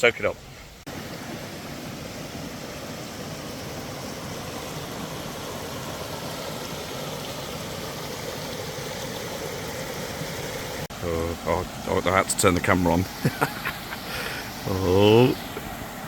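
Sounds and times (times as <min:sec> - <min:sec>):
stream rushing over rocks: 0:00.1 - 0:16.0.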